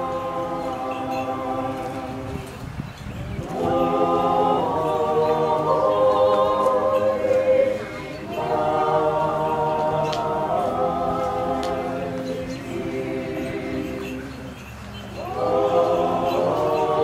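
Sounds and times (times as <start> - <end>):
choir singing chant: 0.0 - 2.7, 3.3 - 17.0.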